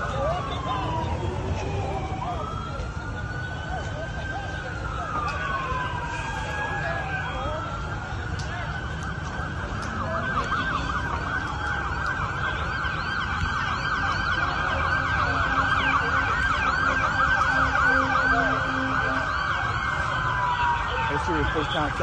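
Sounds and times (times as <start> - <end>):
sirens yelping: 0.0 - 22.0.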